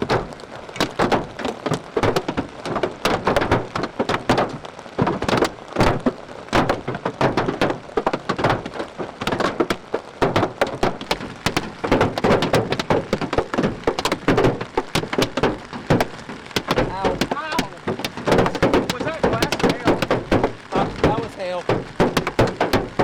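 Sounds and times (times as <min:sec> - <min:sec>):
hailstones knocking on vehicle roof: 0:00.0 - 0:23.0
rain hiss: 0:00.0 - 0:23.0.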